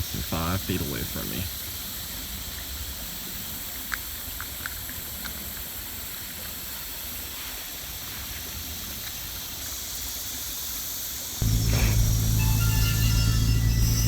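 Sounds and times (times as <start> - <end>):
swamp ambience hiss and rumble: 0.0 - 14.0.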